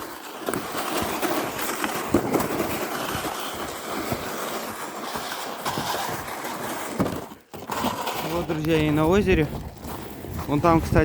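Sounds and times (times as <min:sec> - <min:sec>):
footsteps crunching on snow: 0:00.0 - 0:11.0
sled scraping over snow: 0:00.0 - 0:11.0.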